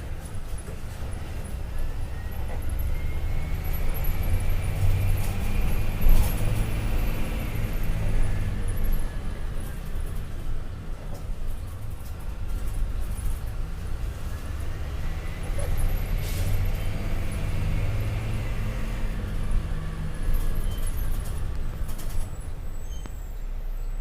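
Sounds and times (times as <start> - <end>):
diesel bus engine running: 0.0 - 24.0.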